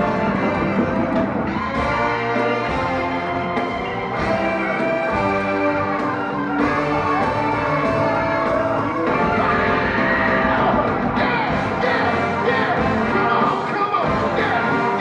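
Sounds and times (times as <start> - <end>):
brass horns playing held notes: 0.0 - 15.0
funk band playing: 0.0 - 15.0.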